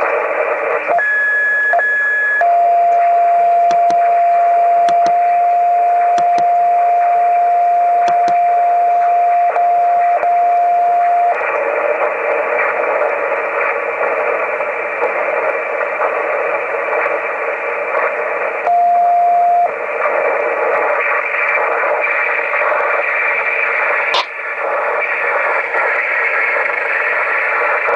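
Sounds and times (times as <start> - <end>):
radio receiver hiss: 0.0 - 27.9.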